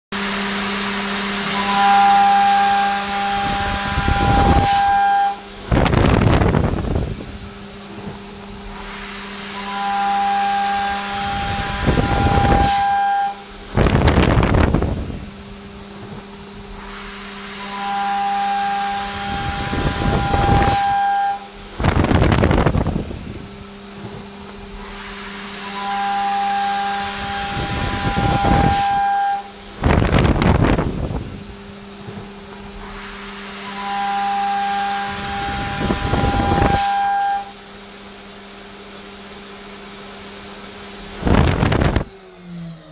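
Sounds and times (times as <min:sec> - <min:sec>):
high-pitched cutting whine: 0:00.2 - 0:42.9.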